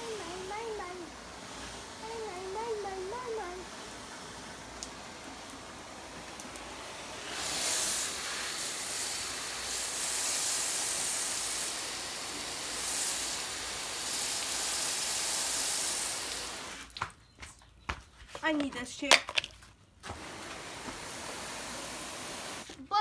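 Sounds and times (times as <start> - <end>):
water hissing from spray nozzle: 0.0 - 17.0, 20.1 - 22.8.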